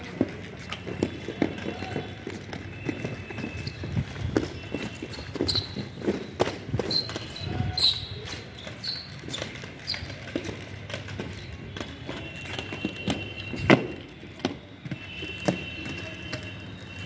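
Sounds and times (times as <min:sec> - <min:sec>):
footsteps on concrete: 0:00.0 - 0:17.0
inline skate wheels on concrete: 0:00.0 - 0:17.0.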